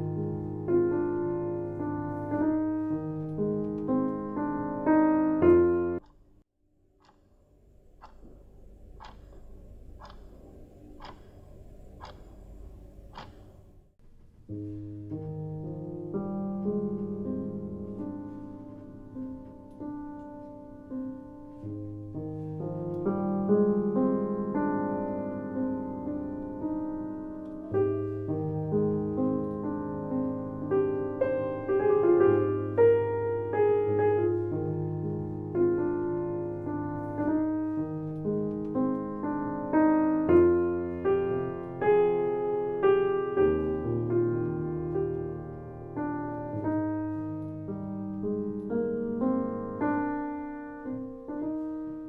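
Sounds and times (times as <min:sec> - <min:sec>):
solo piano music: 0:00.0 - 0:06.5, 0:13.8 - 0:52.0.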